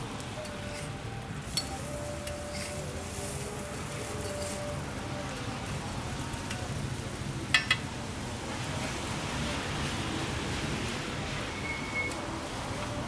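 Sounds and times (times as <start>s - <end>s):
burger sizzling on a griddle: 0.0s - 13.0s.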